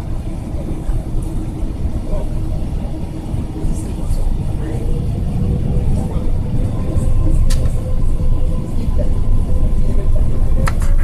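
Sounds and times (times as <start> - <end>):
faint engine whine: 0.0 - 11.0
low rumble of aircraft engines: 0.0 - 11.0.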